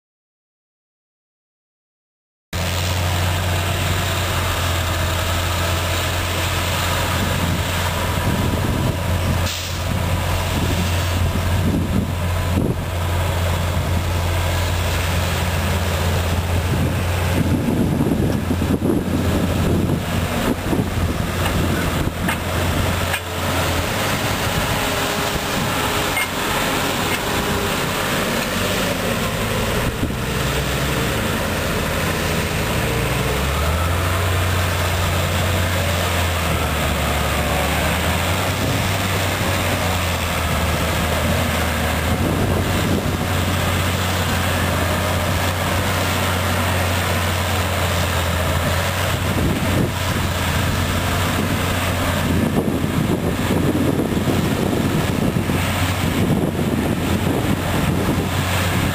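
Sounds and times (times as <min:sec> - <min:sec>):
harvester machinery noise: 0:02.6 - 0:58.9
tractor engines running under load: 0:02.6 - 0:58.9.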